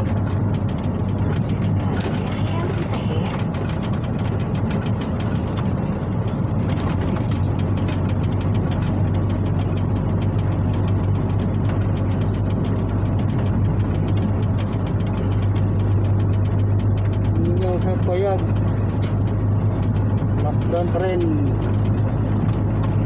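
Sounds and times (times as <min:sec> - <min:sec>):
diesel truck engine running: 0:00.0 - 0:23.0
road noise: 0:00.0 - 0:23.0.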